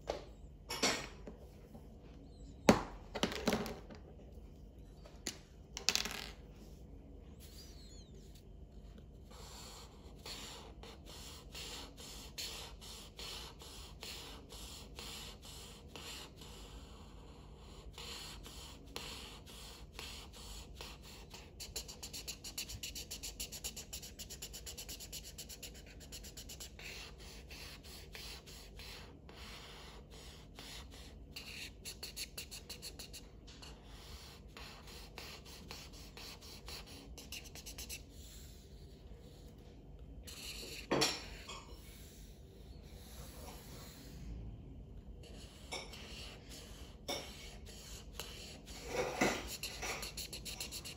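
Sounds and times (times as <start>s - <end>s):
marker scratching on paper: 7.4s - 39.5s, 40.2s - 44.2s, 45.2s - 50.9s.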